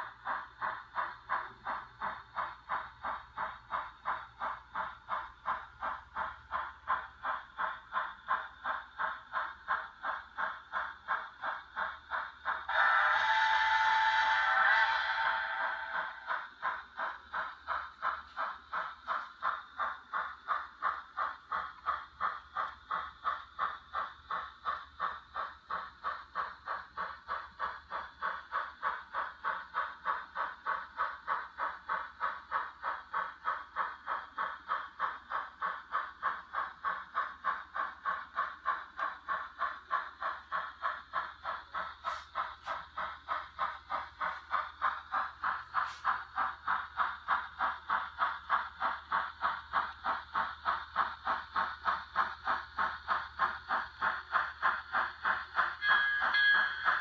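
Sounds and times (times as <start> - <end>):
model steam locomotive chuffs: 0.0 - 57.0.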